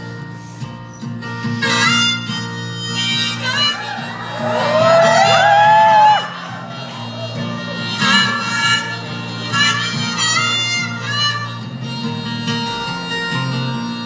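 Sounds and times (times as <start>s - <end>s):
guitar accompaniment: 0.0s - 14.0s
harmonica wailing notes: 1.3s - 14.0s.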